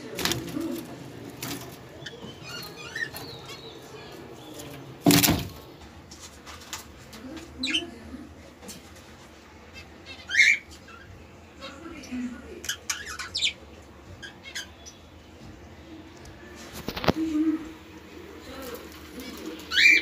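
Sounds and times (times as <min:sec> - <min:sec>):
birds chirping: 0:00.0 - 0:06.0, 0:07.2 - 0:08.1, 0:09.6 - 0:20.0.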